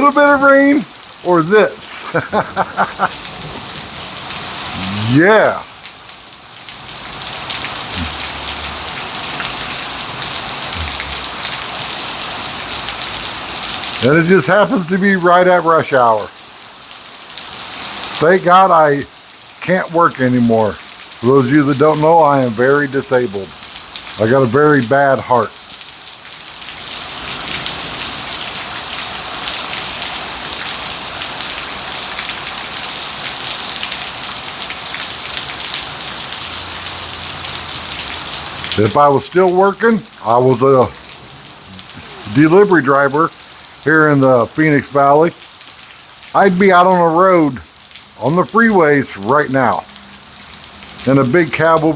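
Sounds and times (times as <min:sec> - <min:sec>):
heavy rain pouring: 0:00.0 - 0:51.9
raindrop splashes: 0:00.0 - 0:51.9.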